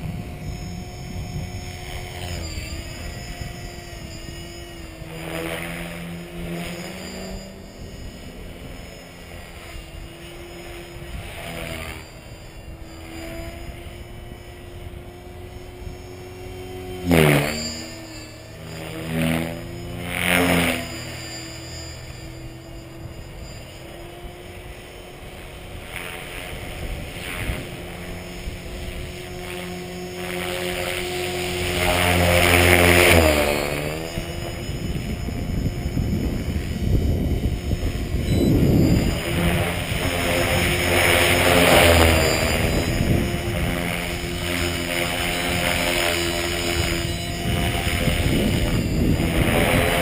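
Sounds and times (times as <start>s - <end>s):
model helicopter motor whine: 0.0s - 50.0s.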